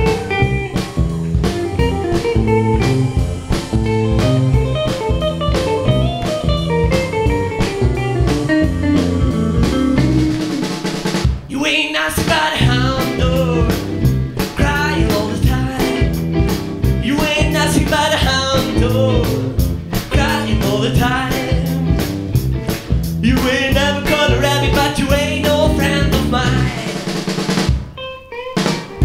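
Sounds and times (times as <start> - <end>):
rock and roll band music: 0.0 - 29.0.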